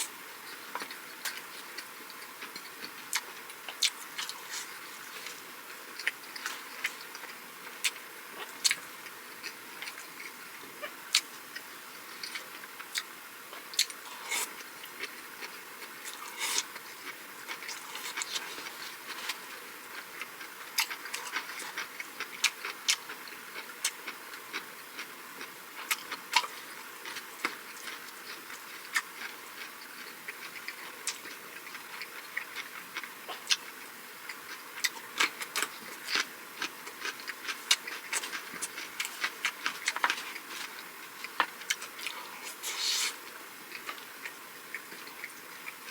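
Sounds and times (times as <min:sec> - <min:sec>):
person chewing: 0:00.0 - 0:08.8, 0:11.1 - 0:45.9.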